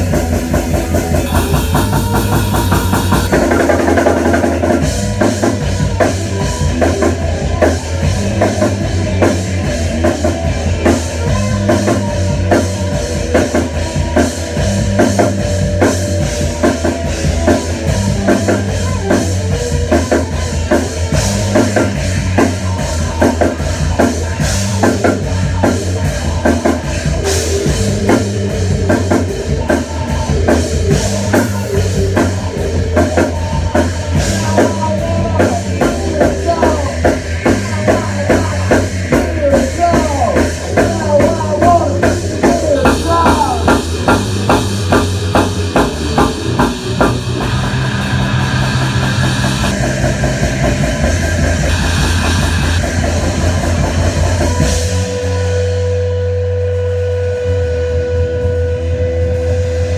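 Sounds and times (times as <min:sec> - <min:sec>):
drum kit beat: 0:00.0 - 0:58.9
electric guitars and bass: 0:00.0 - 0:59.9.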